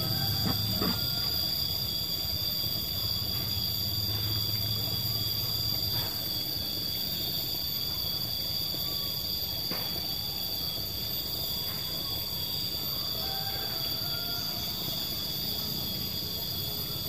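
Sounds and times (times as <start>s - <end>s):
high-pitched insect buzzing: 0.0s - 17.0s.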